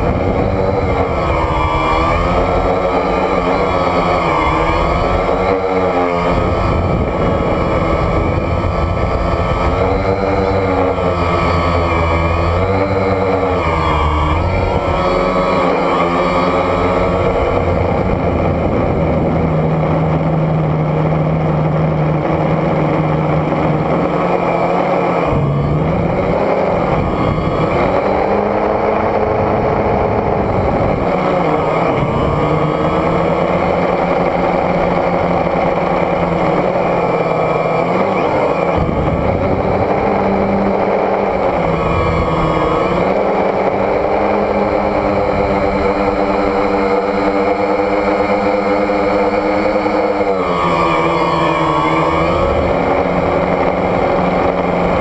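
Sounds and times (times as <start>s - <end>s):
drone motors buzzing: 0.0s - 55.0s
steady high whine: 0.0s - 55.0s.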